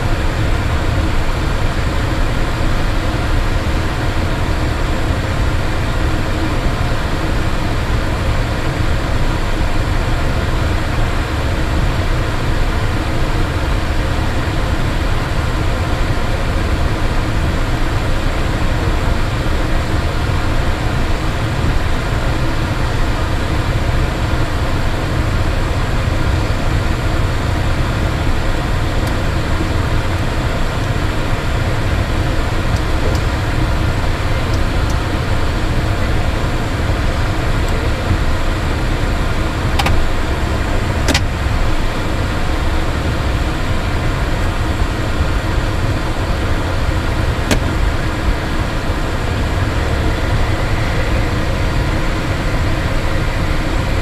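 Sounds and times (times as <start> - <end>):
jet engines running at low power: 0.0 - 54.0.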